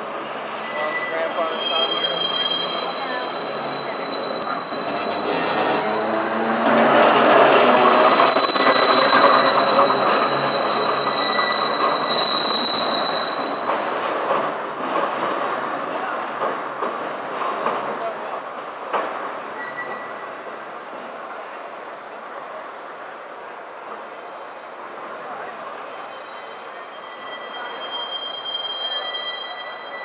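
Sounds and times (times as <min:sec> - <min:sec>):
streetcar rumbling past: 0:00.0 - 0:30.0
streetcar wheels squealing on rails: 0:00.0 - 0:30.0.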